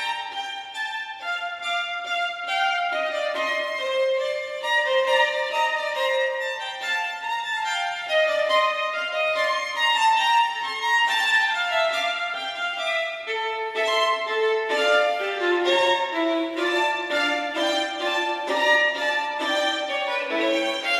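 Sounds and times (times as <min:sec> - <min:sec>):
violin melody: 0:00.0 - 0:20.9.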